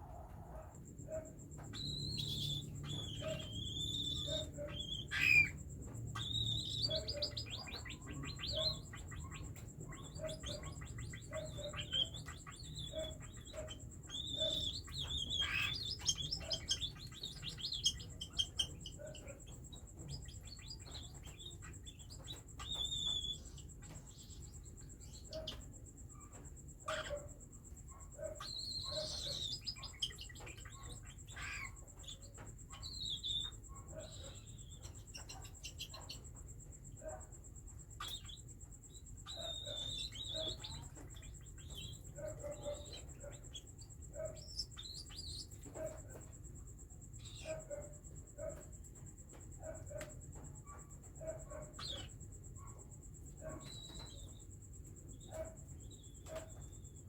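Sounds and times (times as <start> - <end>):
wavering high bird calls: 0.0 - 37.3, 37.9 - 46.4, 47.2 - 48.8, 49.6 - 57.0
baby birds chirping and clicking: 0.1 - 57.0.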